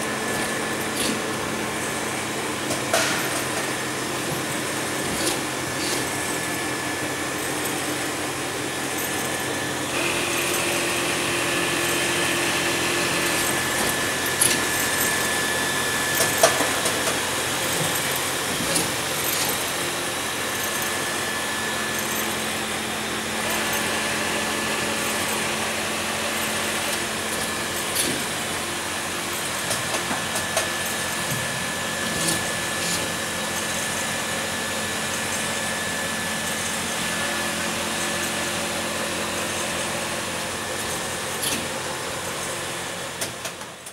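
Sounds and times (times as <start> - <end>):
injection moulding machine hum: 0.0 - 43.9.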